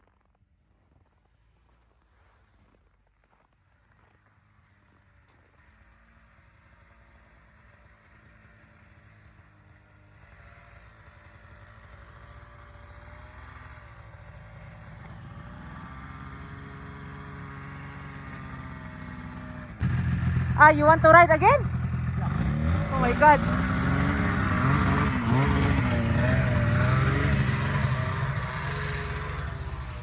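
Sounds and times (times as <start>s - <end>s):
snowmobile engine approaching: 0.1s - 30.0s.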